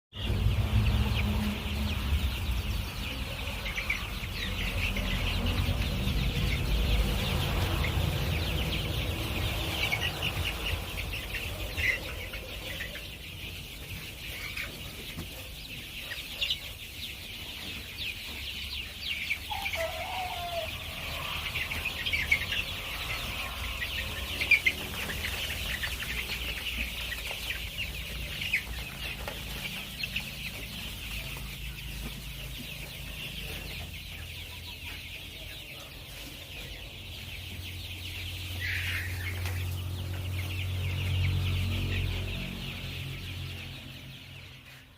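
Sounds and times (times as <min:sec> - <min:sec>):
poultry clucking and calling: 0:00.1 - 0:44.9.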